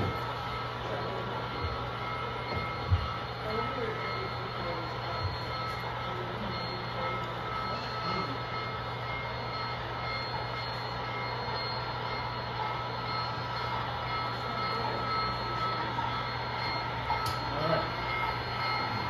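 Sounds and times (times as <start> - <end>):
model train humming: 0.0 - 19.0.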